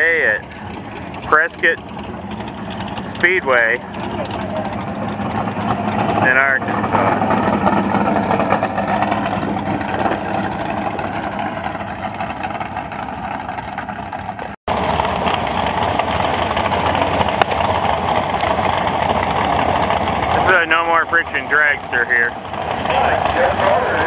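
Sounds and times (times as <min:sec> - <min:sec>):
race car engines idling: 0:00.0 - 0:24.0.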